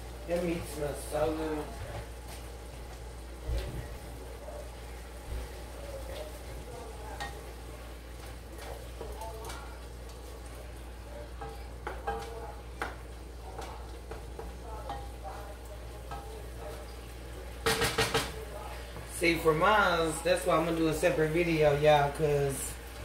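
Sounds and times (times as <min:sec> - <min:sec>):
meat sizzling: 0:00.0 - 0:23.0.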